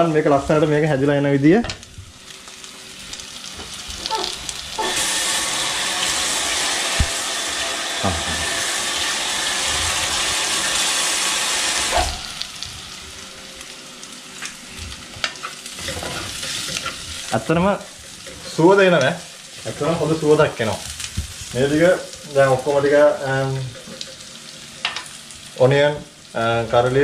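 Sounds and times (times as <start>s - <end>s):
onions sizzling in hot oil: 1.7s - 27.0s.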